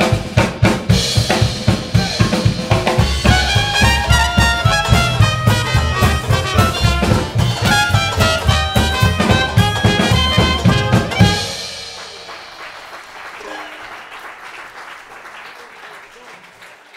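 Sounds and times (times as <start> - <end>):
jazz band playing: 0.0 - 14.0.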